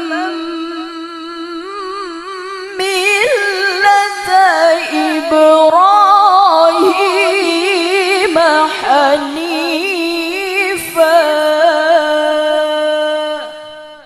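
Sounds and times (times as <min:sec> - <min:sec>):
woman chanting through a microphone: 0:00.0 - 0:14.0.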